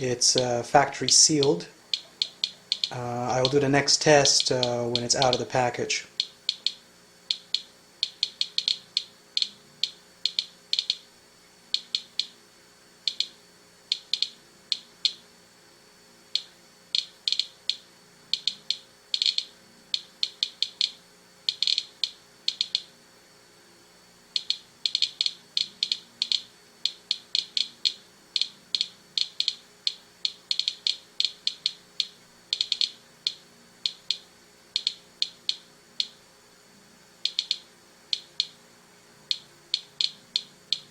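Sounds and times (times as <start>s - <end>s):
geiger counter clicking: 0.3s - 5.5s, 6.1s - 11.1s, 11.7s - 12.4s, 13.0s - 15.2s, 16.3s - 22.9s, 24.3s - 36.2s, 37.2s - 38.6s, 39.2s - 40.9s.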